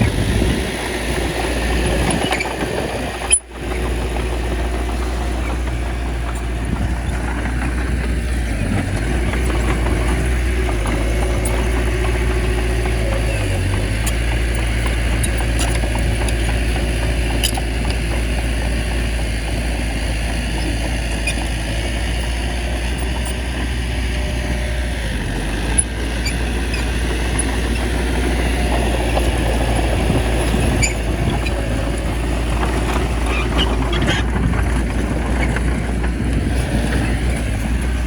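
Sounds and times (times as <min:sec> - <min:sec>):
bulldozer diesel engine rumbling: 0:00.0 - 0:38.0.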